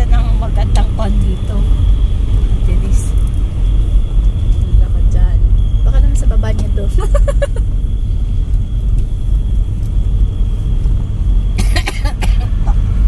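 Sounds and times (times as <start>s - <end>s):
car rumbling on road: 0.0s - 13.0s.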